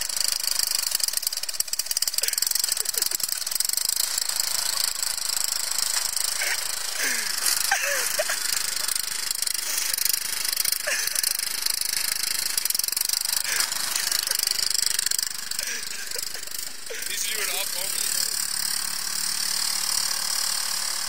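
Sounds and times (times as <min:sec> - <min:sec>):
riding lawn mower engine running: 0:00.0 - 0:21.0.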